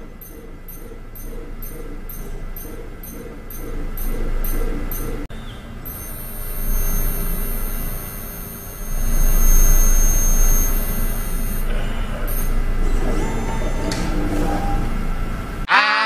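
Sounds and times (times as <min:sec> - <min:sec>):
high-pitched electronic whine: 0:00.0 - 0:15.4
machine humming: 0:00.0 - 0:15.7.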